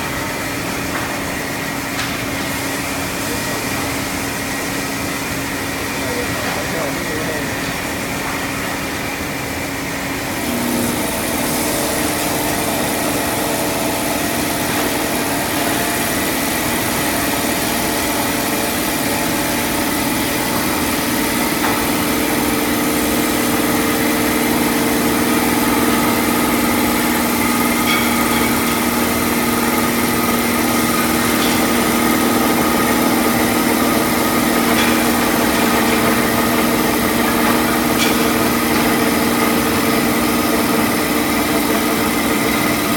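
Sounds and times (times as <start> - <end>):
lathe humming and whirring: 0.0 - 42.9.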